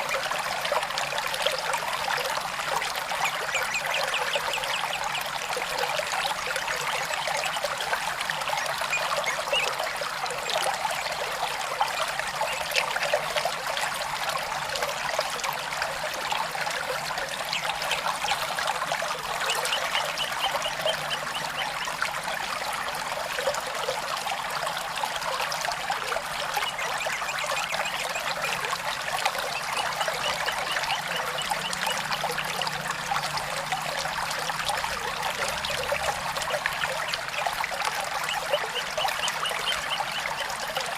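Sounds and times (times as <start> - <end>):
small stream trickling: 0.0 - 40.9.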